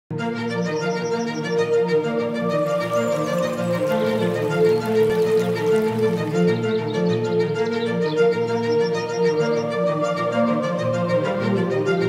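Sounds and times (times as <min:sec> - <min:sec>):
music of sustained notes: 0:00.1 - 0:12.0.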